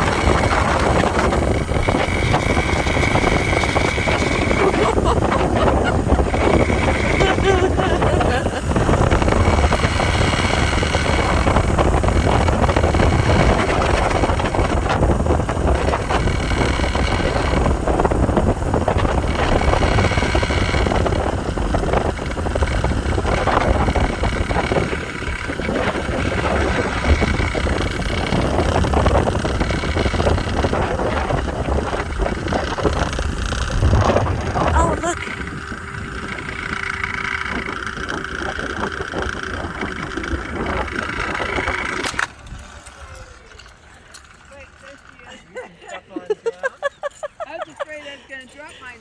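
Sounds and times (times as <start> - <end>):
wind buffeting microphone: 0.0 - 43.4
zipline trolley rumbling on cable: 0.0 - 49.0.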